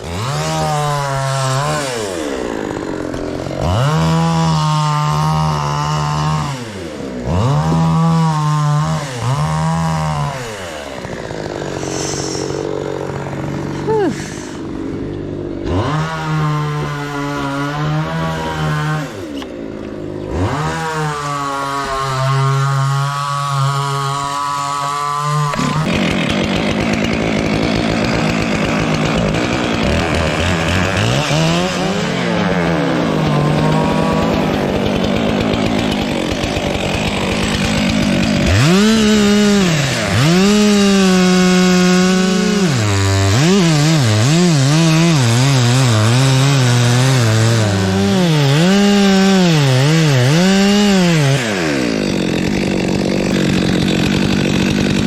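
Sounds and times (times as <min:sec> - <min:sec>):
chainsaw cutting through wood: 0:00.0 - 0:55.0
chainsaw revving: 0:00.0 - 0:55.0.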